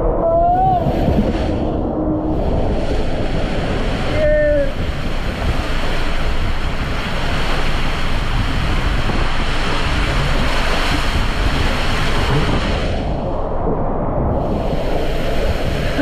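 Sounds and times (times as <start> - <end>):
water rushing through tube: 0.0 - 16.0.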